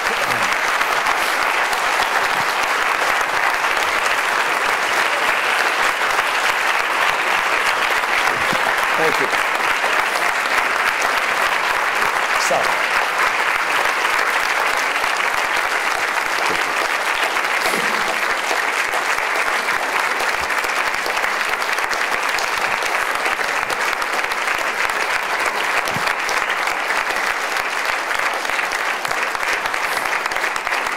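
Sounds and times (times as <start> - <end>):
large audience applauding: 0.0 - 30.9.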